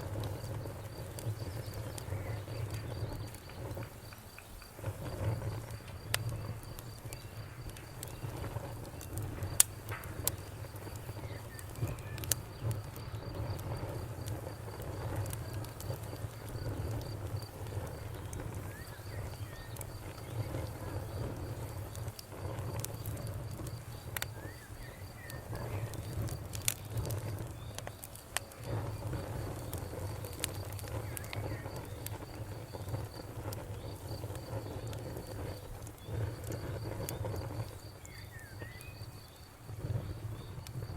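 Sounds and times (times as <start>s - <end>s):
campfire crackling and popping: 0.0s - 40.9s
crickets trilling: 0.0s - 40.9s.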